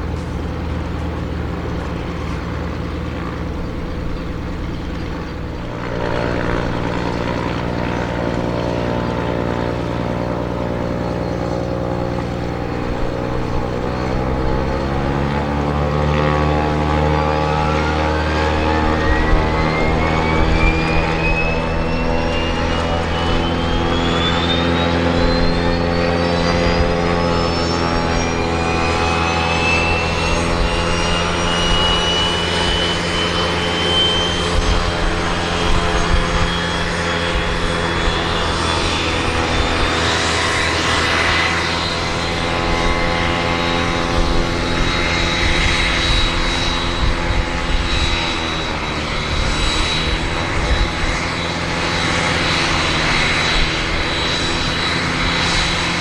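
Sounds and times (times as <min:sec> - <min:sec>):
deep jet engine rumble: 0:00.0 - 0:56.0
jet engine high whine: 0:00.0 - 0:56.0.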